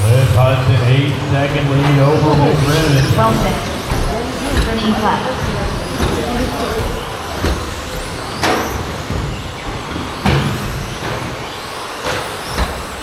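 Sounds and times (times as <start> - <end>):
rc trucks motor and tyre noise: 0.0 - 13.0
trucks knocking against track: 0.2 - 13.0.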